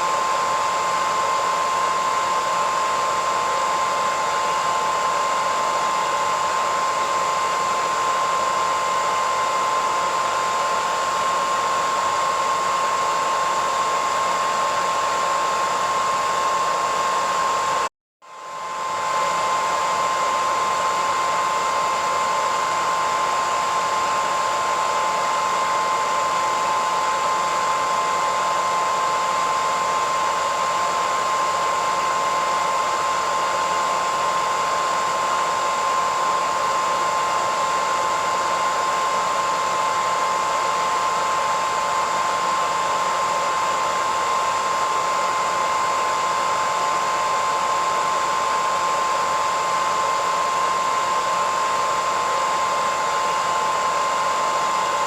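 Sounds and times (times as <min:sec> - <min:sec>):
hairdryer running: 0:00.0 - 0:55.0.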